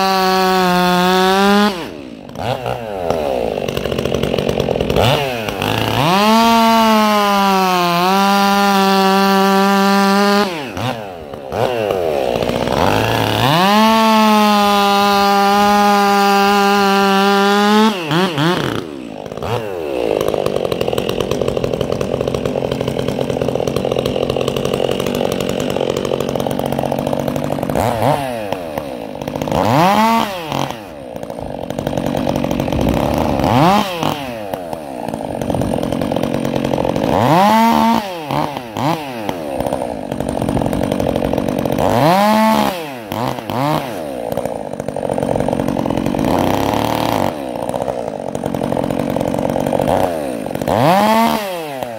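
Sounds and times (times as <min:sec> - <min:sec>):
chainsaw idling and revving: 0:00.0 - 0:51.9.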